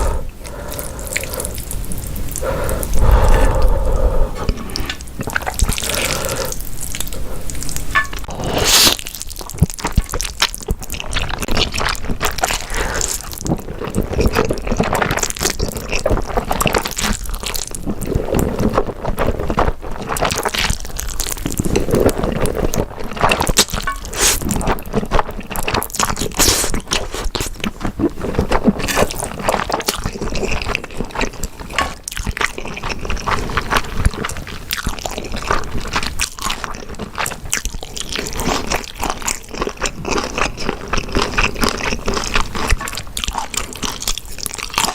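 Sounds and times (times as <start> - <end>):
wet chewing and crunching: 0.0 - 44.9.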